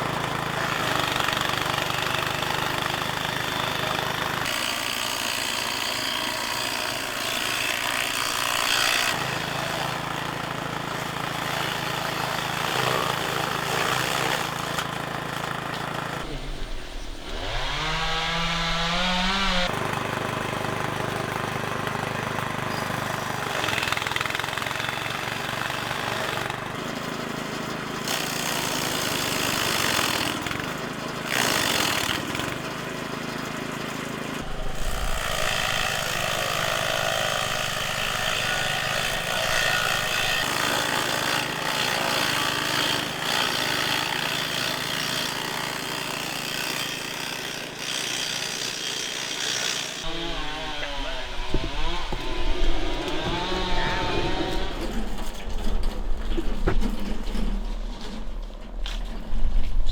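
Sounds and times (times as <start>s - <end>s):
motorized cutter cutting wood: 0.0s - 27.2s, 28.0s - 57.6s.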